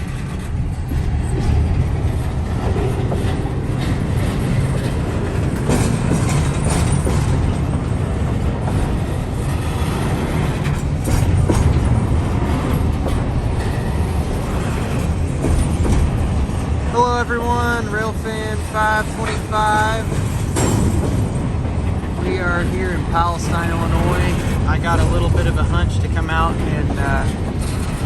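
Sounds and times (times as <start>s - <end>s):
freight train rumbling: 0.0s - 28.0s
wheels clicking over rail joints: 0.0s - 28.0s.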